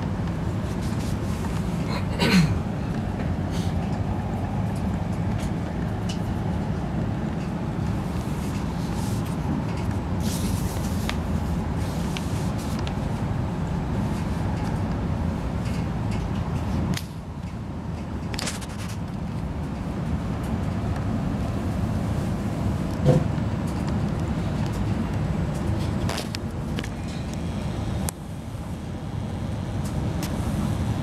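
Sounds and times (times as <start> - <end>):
train carriage rumble: 0.0 - 31.0.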